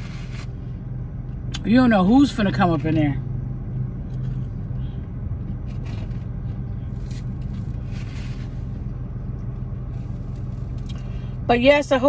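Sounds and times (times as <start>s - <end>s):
car idling hum: 0.0s - 12.0s.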